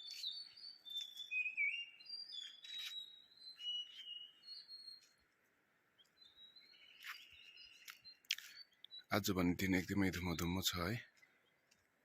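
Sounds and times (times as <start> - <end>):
wild birds whistling and chirping: 0.0 - 12.0.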